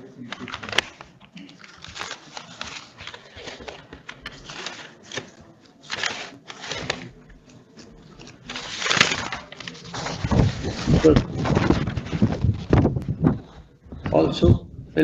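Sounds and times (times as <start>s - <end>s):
paper pages rustling: 0.2s - 13.8s.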